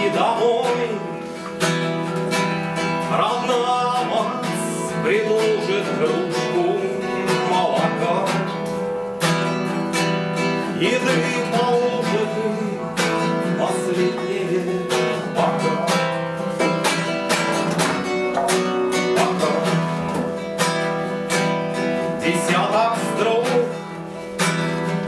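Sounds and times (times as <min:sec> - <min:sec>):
man singing: 0:00.0 - 0:08.9, 0:10.4 - 0:25.0
classical guitar chords: 0:00.0 - 0:25.0.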